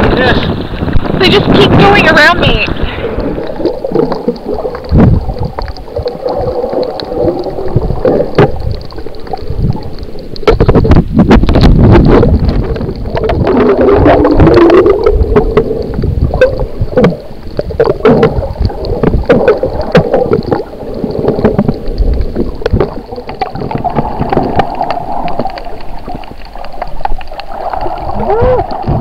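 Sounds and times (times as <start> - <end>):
underwater water rushing: 0.0 - 29.0
sharp underwater clicks: 0.8 - 29.0.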